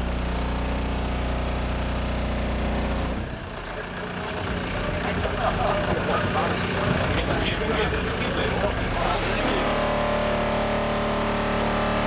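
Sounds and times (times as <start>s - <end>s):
deep bass tone from subwoofers: 0.0s - 12.0s.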